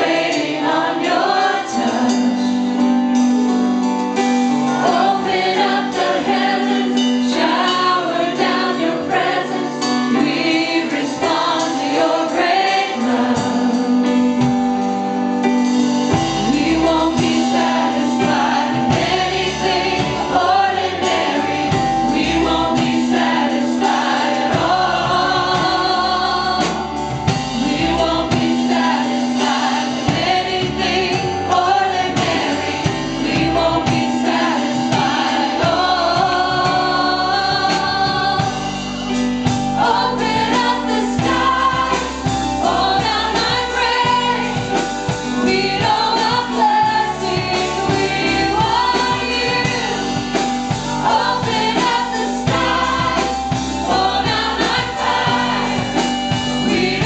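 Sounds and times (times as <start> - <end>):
choir singing gospel song: 0.0 - 57.0
instrumental accompaniment: 0.0 - 57.0.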